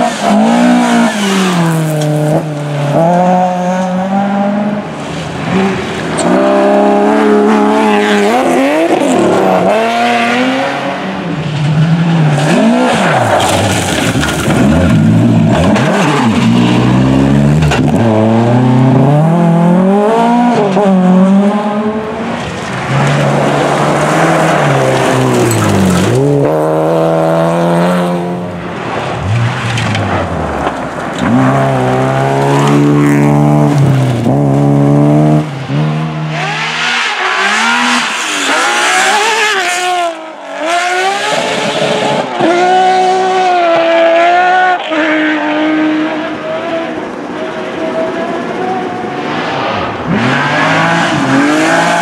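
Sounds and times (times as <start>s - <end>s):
distant car revving: 0.0s - 52.0s
rally car engines at full throttle: 0.0s - 52.0s.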